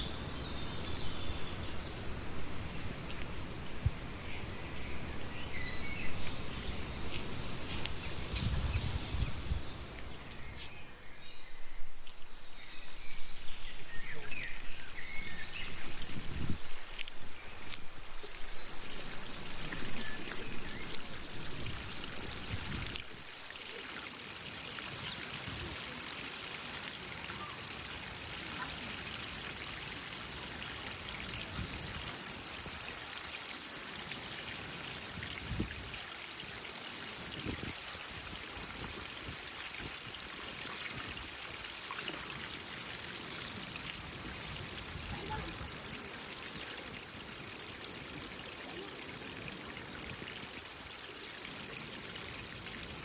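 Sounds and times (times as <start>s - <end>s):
stream trickling: 0.0s - 53.0s.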